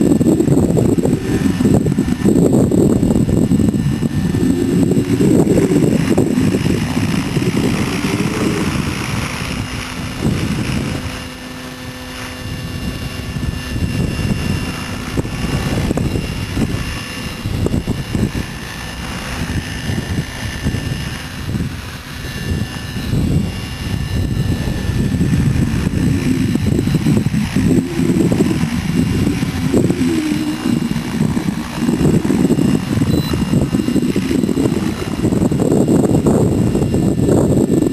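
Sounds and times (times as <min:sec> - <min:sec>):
rc helicopter motor and rotor whine: 0:00.0 - 0:37.9
wind noise on microphone: 0:00.0 - 0:37.9.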